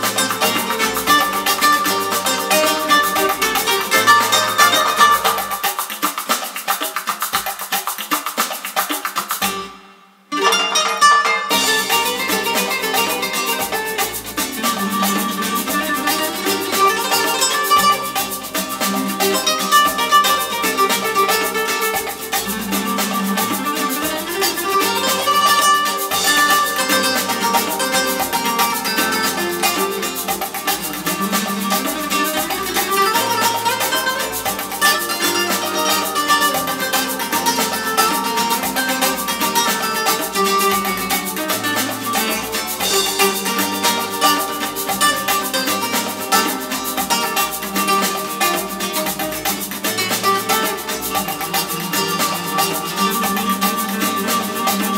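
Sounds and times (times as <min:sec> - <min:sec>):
music with quick beat over loudspeakers: 0:00.0 - 0:09.9, 0:11.5 - 0:54.9.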